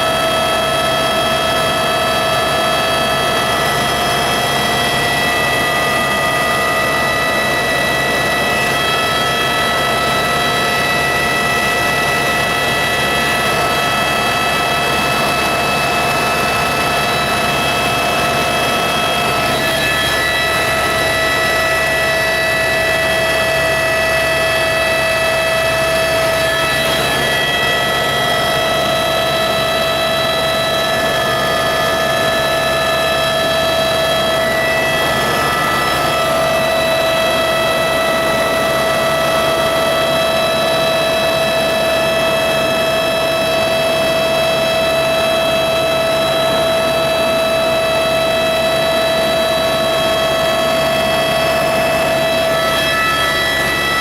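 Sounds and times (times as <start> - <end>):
helicopter rushing noise: 0.0 - 54.0
helicopter whine: 0.0 - 54.0.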